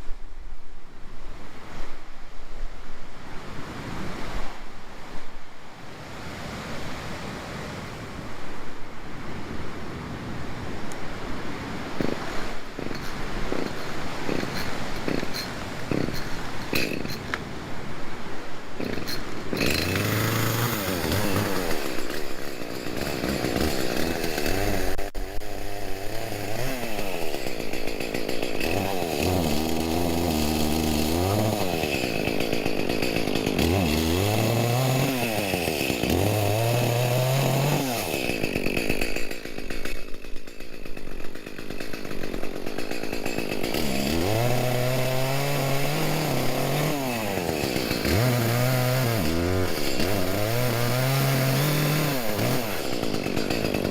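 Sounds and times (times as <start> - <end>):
chainsaw cutting timber: 10.5 - 53.9.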